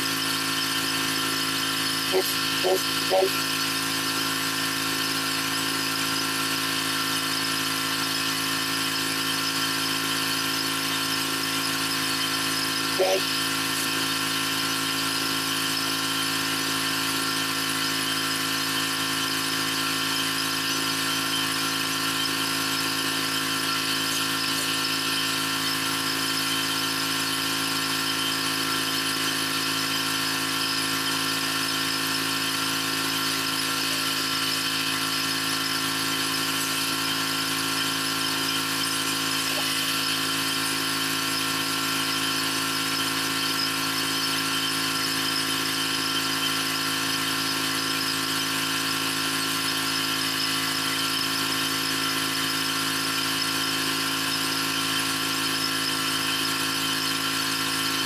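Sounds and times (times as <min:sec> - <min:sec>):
pressure washer whine: 0:00.0 - 0:58.0.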